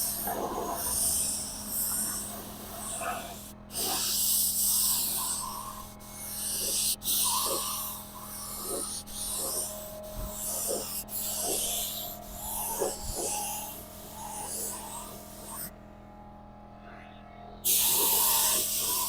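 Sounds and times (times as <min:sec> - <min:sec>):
paint spray gun hissing: 0:01.0 - 0:15.5, 0:17.7 - 0:19.0.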